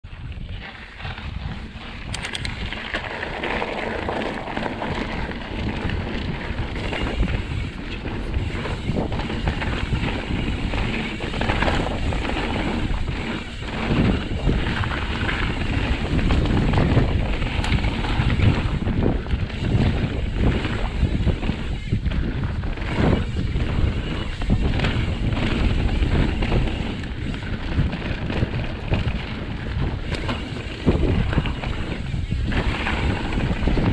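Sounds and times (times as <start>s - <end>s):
wind rushing over microphone: 0.0s - 33.9s
bike rattling over bumps: 0.1s - 33.9s
tyres rolling on dirt: 0.1s - 33.9s.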